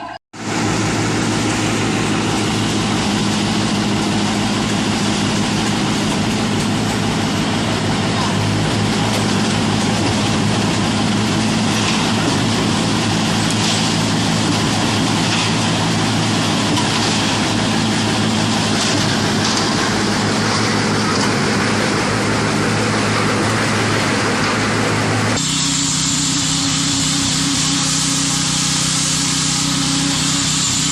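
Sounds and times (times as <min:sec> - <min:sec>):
concrete pump engine drone: 0:00.0 - 0:30.9
thinner machine tone: 0:00.0 - 0:30.9.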